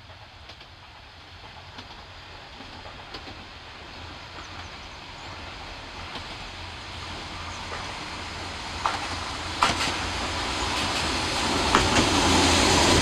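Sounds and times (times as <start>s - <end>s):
diesel railcar approaching: 0.0s - 13.0s.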